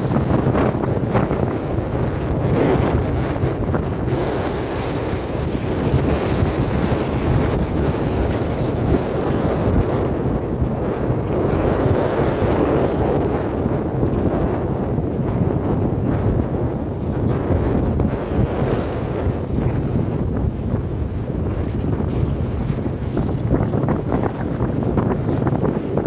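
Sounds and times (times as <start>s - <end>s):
wind buffeting microphone: 0.0s - 26.0s
ocean surf washing in: 2.2s - 26.0s.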